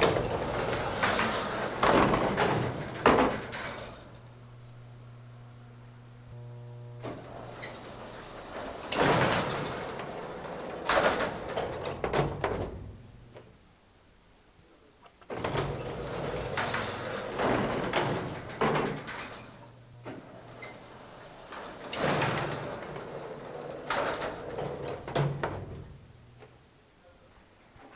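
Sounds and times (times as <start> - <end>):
elevator doors sliding: 0.0 - 4.2, 6.4 - 13.5, 15.3 - 26.4
low steady hum: 4.0 - 27.8.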